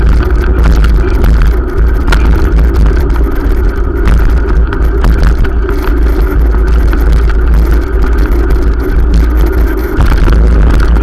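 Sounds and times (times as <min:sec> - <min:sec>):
bicycle knocks and rattles: 0:00.0 - 0:11.0
wind buffeting microphone: 0:00.0 - 0:11.0.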